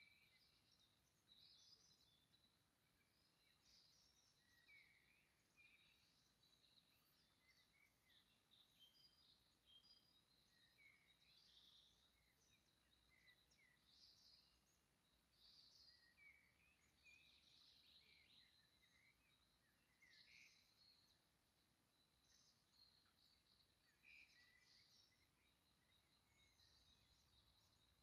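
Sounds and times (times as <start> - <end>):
birds chirping and warbling: 0.0 - 28.0
low background hiss: 0.0 - 28.0.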